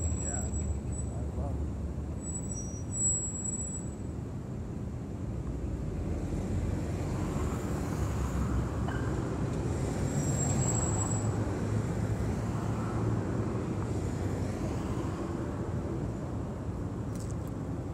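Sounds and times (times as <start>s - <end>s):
road traffic rumble: 0.0s - 17.9s.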